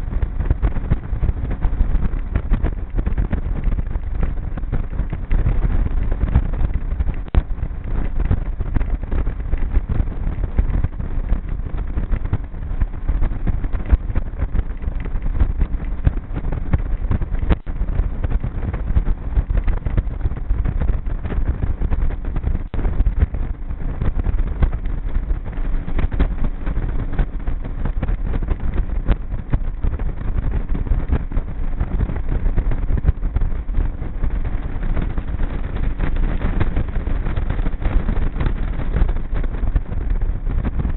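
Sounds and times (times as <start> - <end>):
motorboat motor running: 0.0 - 40.9
wind and water rumble: 0.0 - 40.9.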